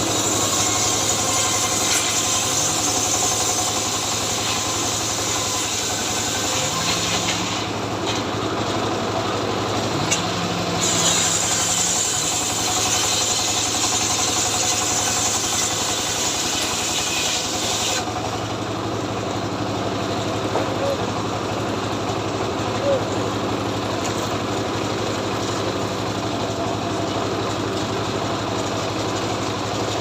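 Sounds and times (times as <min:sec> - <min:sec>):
chainsaw engine running: 0:00.0 - 0:30.0.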